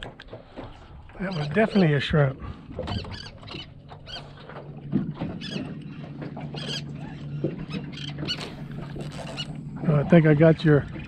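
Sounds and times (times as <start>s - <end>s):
seabirds squealing: 0.4s - 10.4s.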